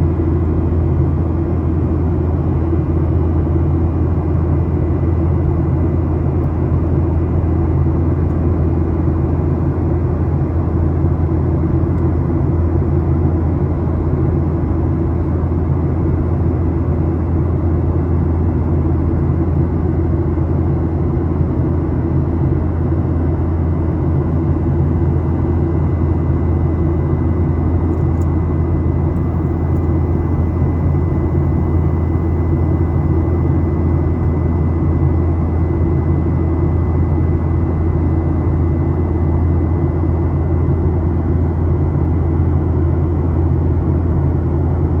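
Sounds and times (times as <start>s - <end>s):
airliner cabin engine drone: 0.0s - 45.0s.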